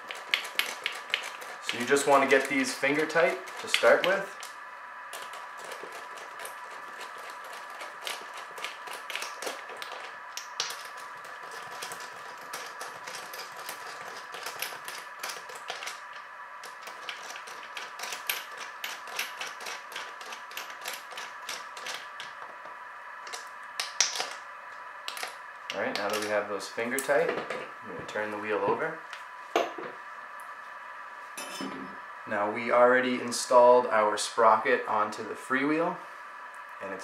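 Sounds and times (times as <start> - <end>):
steady high hum: 0.0 - 37.0.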